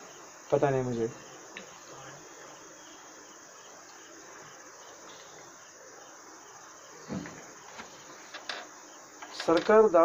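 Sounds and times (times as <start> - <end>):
background hiss: 0.0 - 10.0
insects chirping: 0.0 - 10.0.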